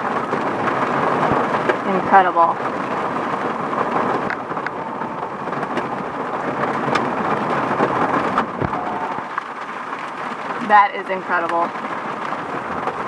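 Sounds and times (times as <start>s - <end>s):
heavy rain on a car: 0.0s - 13.0s.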